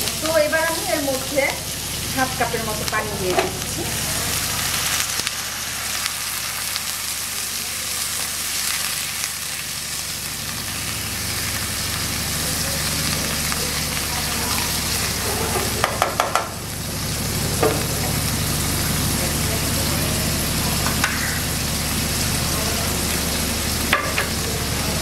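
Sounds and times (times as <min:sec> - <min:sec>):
vegetables sizzling in a wok: 0:00.0 - 0:25.0.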